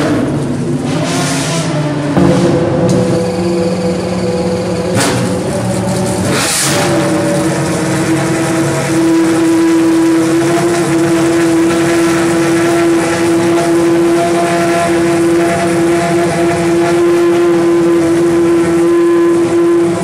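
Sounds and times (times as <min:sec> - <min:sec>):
racing car engine high-pitched drone: 0:00.0 - 0:20.0.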